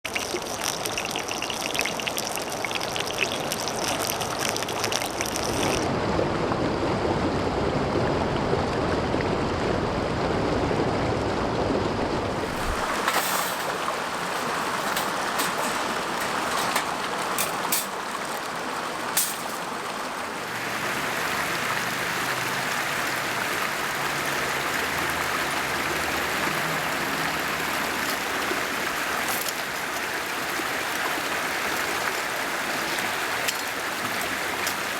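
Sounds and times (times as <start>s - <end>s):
stream rushing over rocks: 0.1s - 10.4s, 11.6s - 34.9s.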